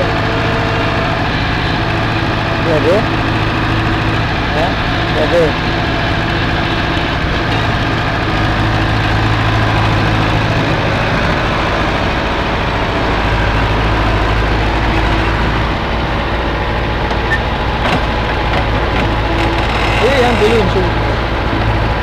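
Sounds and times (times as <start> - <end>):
heavy machine engine idling: 0.0 - 22.0.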